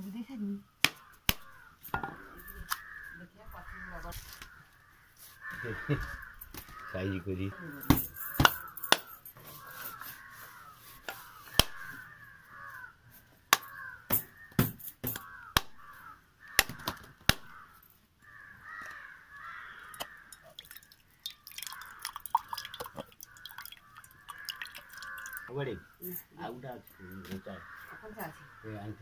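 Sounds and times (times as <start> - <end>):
crows cawing: 0.6 - 29.0.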